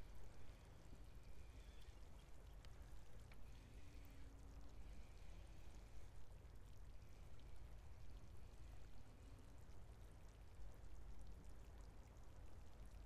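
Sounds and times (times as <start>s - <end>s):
faint water trickling and lapping: 0.0s - 13.0s
small water drips: 0.0s - 13.0s.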